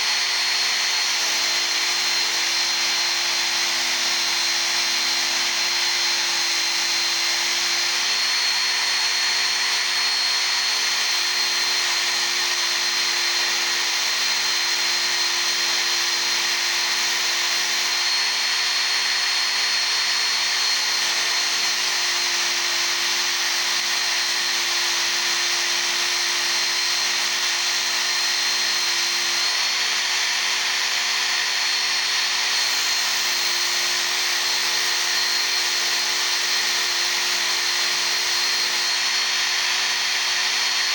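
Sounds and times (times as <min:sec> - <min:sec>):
belt sharpener grinding steel: 0:00.0 - 0:40.9.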